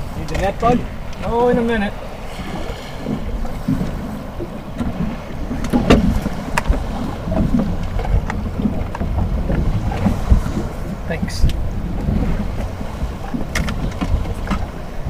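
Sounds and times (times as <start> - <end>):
choppy water against boat hull: 0.0 - 15.0
wind buffeting microphone: 0.0 - 15.0
low rumble: 1.8 - 15.0.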